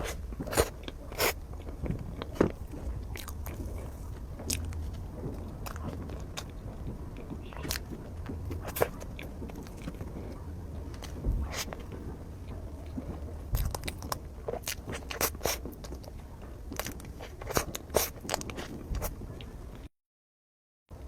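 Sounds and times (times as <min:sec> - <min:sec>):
close-miked chewing: 0:00.0 - 0:19.9
low hum: 0:00.0 - 0:19.9.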